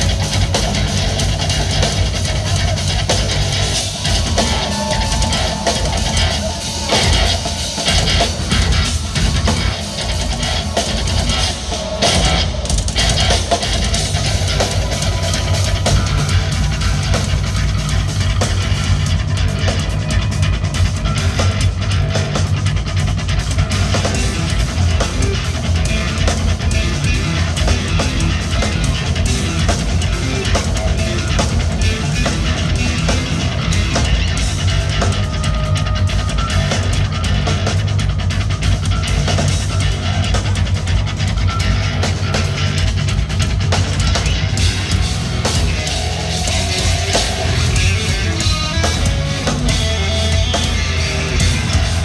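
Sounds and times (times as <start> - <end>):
drum kit: 0.0 - 52.0
electric guitars: 0.0 - 52.0.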